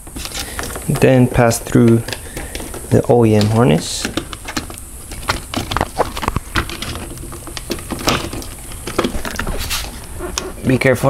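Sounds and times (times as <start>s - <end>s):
wires and connectors clicking: 0.0s - 10.5s.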